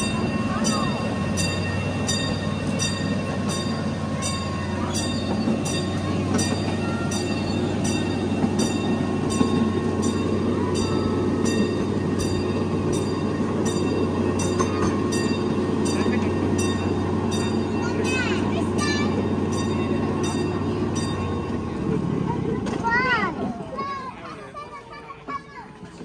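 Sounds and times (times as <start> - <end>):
light track clicks: 0.0 - 23.6
miniature train rumbling: 0.0 - 26.0.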